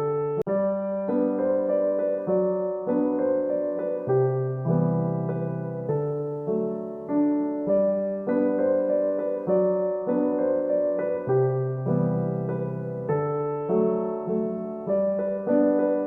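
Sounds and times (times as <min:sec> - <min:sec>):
gentle solo piano music: 0:00.0 - 0:16.0.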